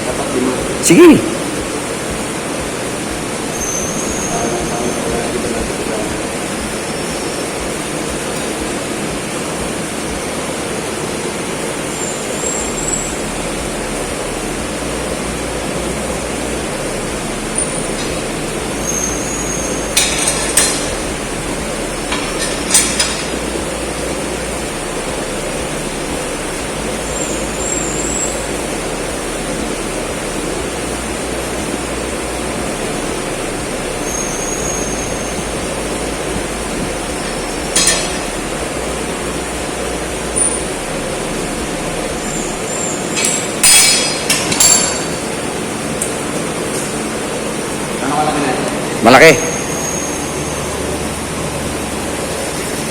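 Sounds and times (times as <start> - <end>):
steady rushing noise: 0.0 - 34.0, 34.8 - 52.9.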